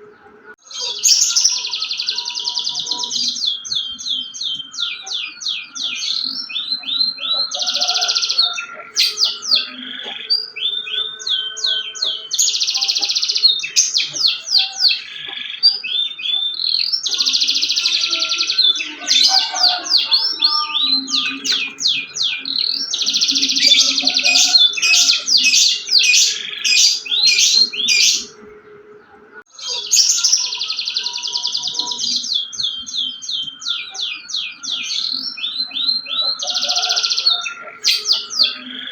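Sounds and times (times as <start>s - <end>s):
canary singing high trills: 0.0s - 38.9s.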